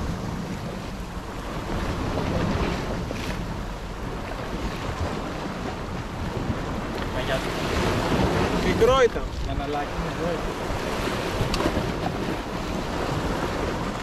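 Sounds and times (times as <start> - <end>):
waves breaking against rocks: 0.0 - 14.0
wind buffeting microphone: 0.0 - 14.0.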